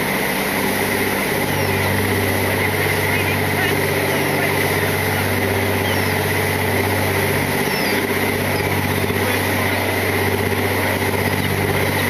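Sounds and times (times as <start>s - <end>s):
boat engine humming: 0.0s - 12.0s
rush of churning wake: 0.0s - 12.0s.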